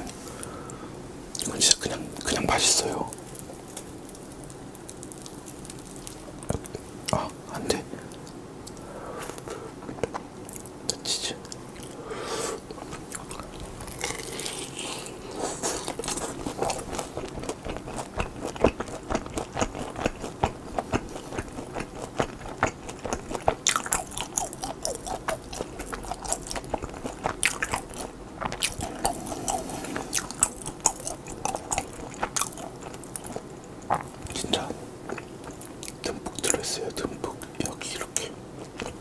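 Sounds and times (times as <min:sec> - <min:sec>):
person chewing crunchy food: 0:01.4 - 0:10.8, 0:11.4 - 0:39.0.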